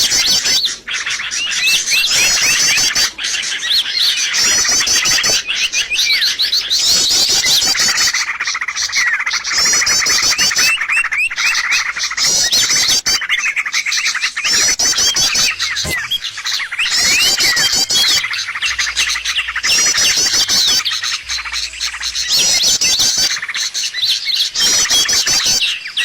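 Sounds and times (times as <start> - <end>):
small birds chirping and trilling: 0.0 - 26.0.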